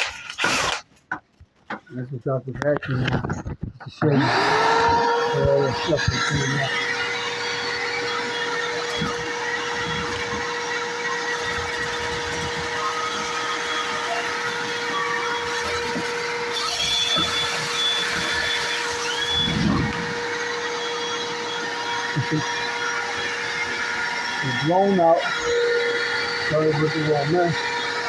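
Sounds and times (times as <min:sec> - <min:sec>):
blower motor humming: 0:02.0 - 0:28.0.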